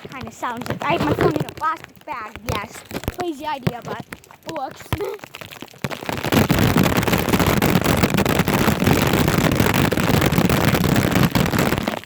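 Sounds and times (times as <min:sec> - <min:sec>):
heavy rain on plastic bag: 0:00.0 - 0:12.0.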